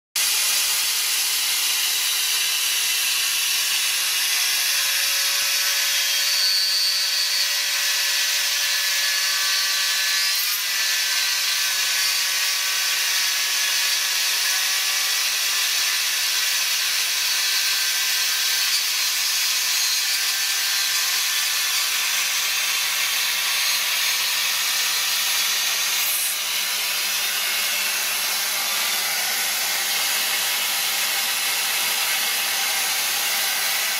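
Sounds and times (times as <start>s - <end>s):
milling machine cutting metal: 0.2s - 33.9s.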